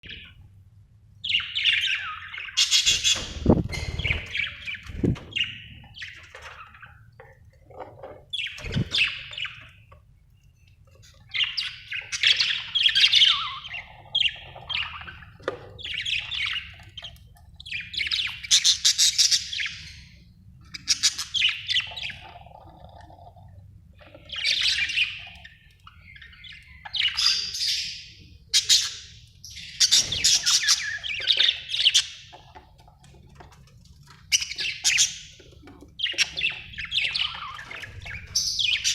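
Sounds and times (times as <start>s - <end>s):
budgerigars chirping and warbling: 1.2s - 38.9s.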